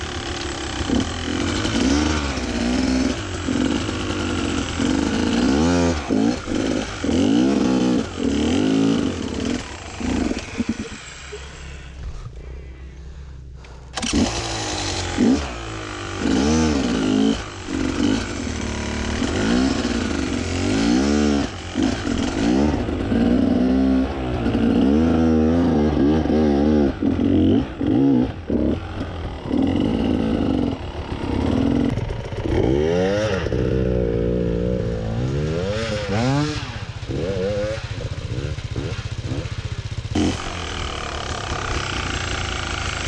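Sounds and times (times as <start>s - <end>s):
dirt bike engine revving: 0.0s - 12.5s, 14.0s - 43.0s.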